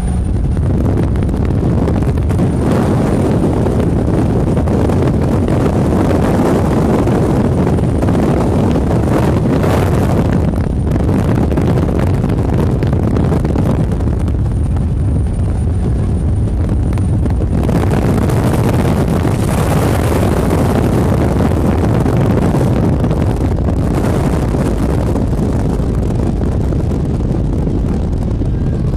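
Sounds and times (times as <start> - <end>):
boat engine running: 0.0 - 28.9
wind buffeting microphone: 0.0 - 28.9.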